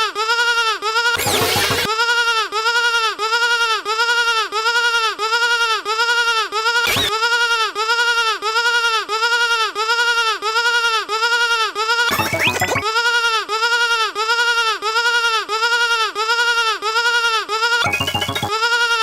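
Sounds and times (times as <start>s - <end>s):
sheep bleats in a fast loop: 0.0s - 19.0s.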